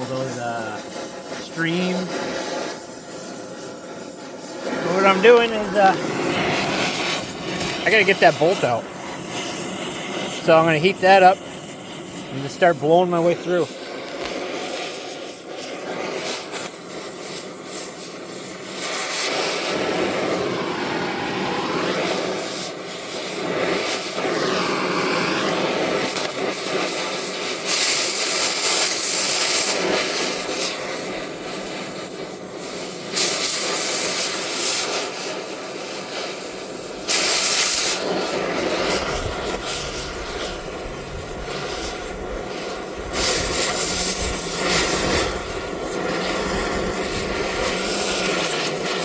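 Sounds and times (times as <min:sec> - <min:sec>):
cutting torch hissing roar: 0:00.0 - 0:49.0
oxygen blasts from torch: 0:00.0 - 0:49.0.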